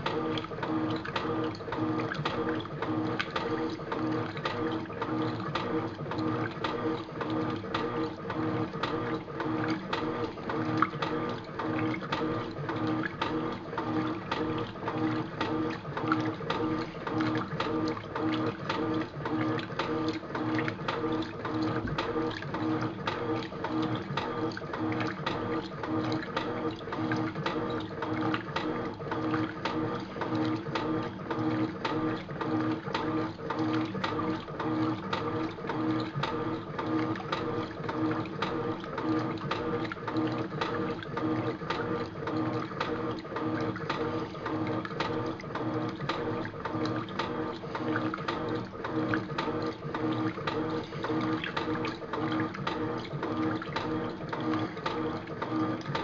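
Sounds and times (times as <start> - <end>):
washing machine humming: 0.0 - 56.0.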